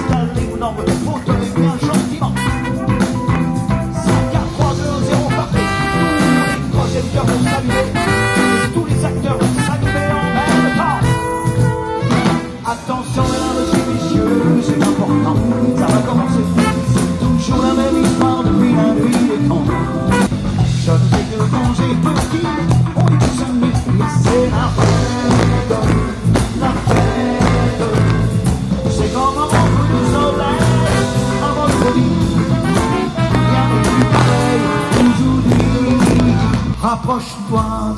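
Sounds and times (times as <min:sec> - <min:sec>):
male singer: 0:00.0 - 0:02.8, 0:04.0 - 0:11.2, 0:12.5 - 0:37.9
live pop band playing: 0:00.0 - 0:37.9.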